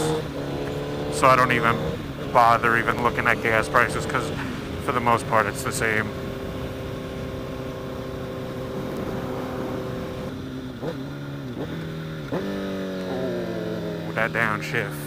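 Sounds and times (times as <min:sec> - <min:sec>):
engine revs on downshifts: 0:00.0 - 0:15.0
motorcycle engine running: 0:00.0 - 0:15.0.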